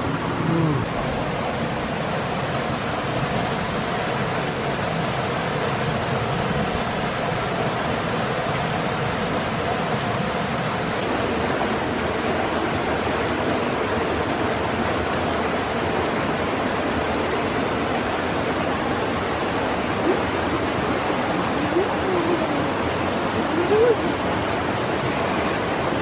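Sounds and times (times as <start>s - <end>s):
stream water rushing over rocks: 0.0s - 26.0s.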